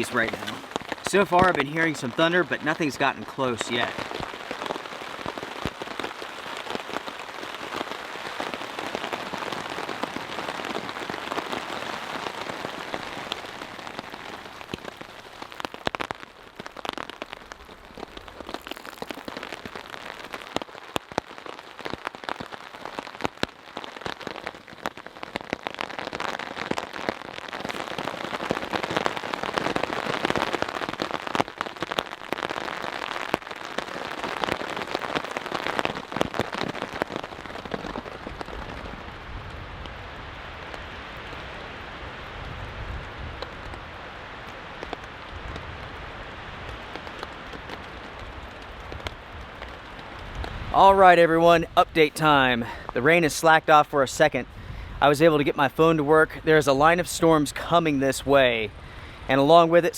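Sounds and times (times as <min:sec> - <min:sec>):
heavy raindrops striking: 0:00.0 - 0:59.9
rain hissing on a tarp: 0:00.0 - 0:59.9.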